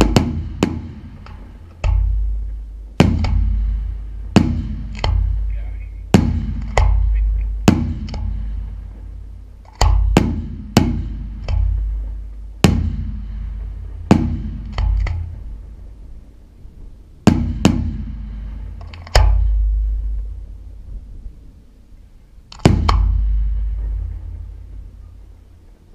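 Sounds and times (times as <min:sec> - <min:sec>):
low rumbling echo: 0:00.0 - 0:25.9.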